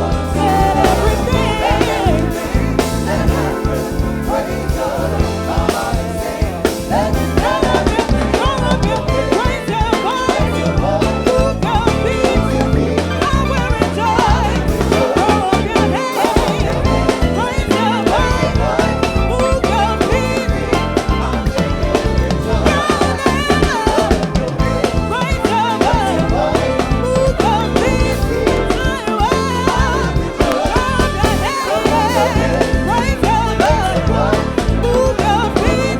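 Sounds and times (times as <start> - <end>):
drum kit beat: 0.0 - 35.9
gospel band playing: 0.0 - 35.9
person singing: 0.0 - 35.9.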